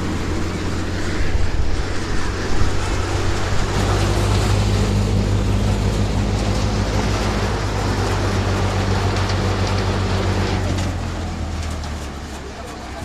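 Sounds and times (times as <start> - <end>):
threshing machine noise: 0.0 - 13.0
tractor engine hum: 0.0 - 13.0.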